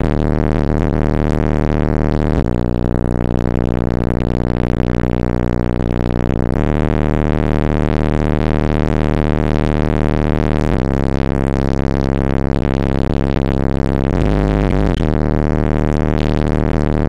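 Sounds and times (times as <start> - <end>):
bass-heavy electronic music: 0.0 - 17.0.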